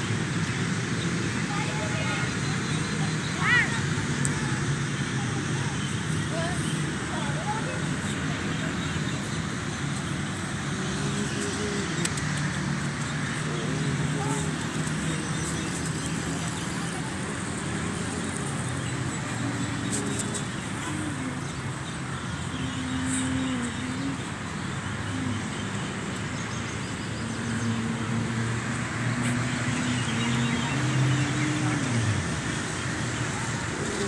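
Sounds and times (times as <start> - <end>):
road traffic hum: 0.0 - 34.0
engines shifting pitch: 0.1 - 34.0.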